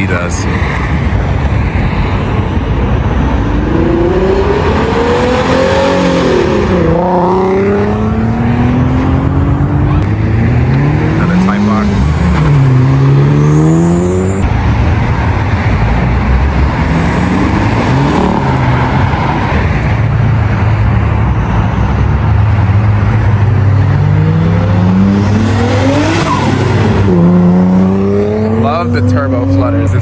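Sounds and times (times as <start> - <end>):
cars accelerating with revving engines: 0.0 - 30.0.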